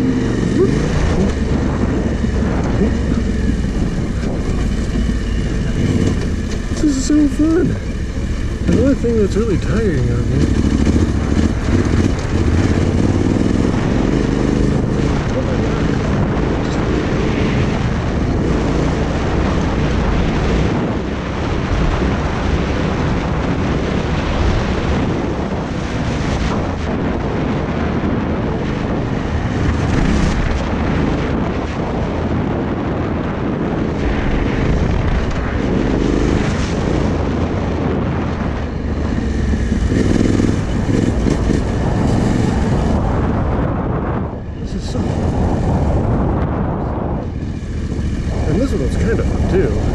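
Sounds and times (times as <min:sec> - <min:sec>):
motorcycle engine revving: 0:00.0 - 0:49.9
wind buffeting microphone: 0:00.0 - 0:49.9.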